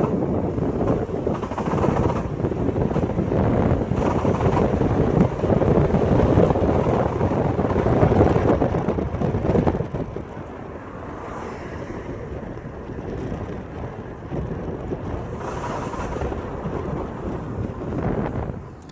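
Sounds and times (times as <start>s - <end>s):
minivan loud rough noise: 0.0s - 18.9s.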